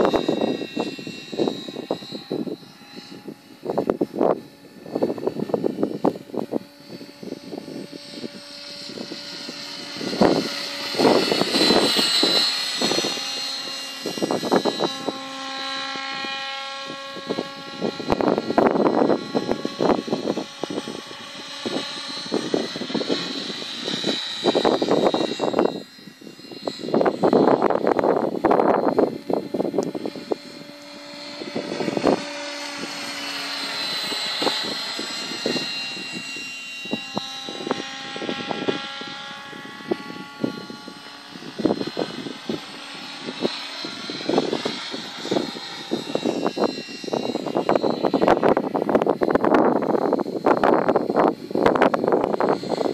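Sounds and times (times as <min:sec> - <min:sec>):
lower hum: 0:00.0 - 0:52.9
model helicopter rotor whine: 0:00.0 - 0:52.9.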